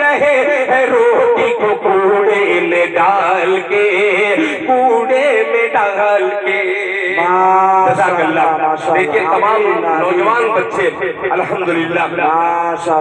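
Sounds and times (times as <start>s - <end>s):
man singing through loudspeakers: 0.0s - 13.0s.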